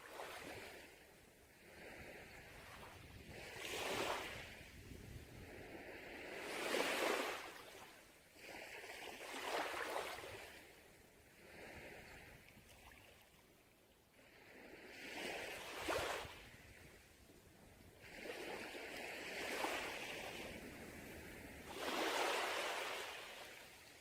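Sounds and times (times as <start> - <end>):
sea waves breaking on beach: 0.0 - 10.7, 14.5 - 17.1, 18.0 - 24.0.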